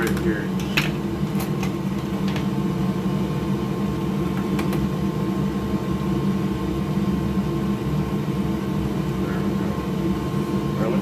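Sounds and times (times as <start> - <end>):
fan or motor humming: 0.0 - 11.0.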